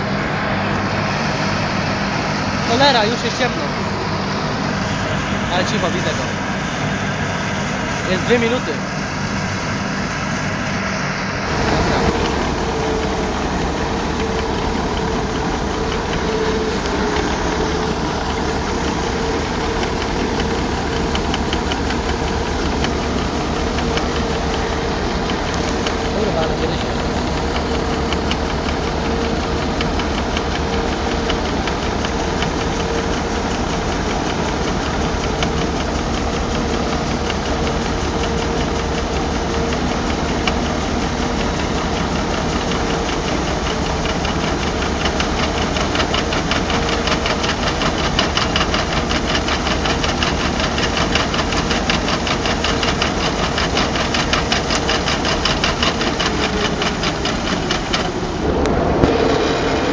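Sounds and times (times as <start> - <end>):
combine harvester running: 0.0 - 59.9
auger rattling: 11.5 - 59.6.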